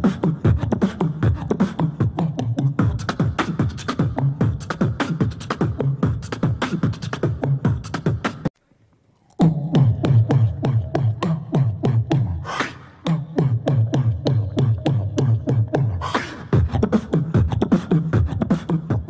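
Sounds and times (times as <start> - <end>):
beatboxing: 0.0 - 8.6, 9.2 - 19.0.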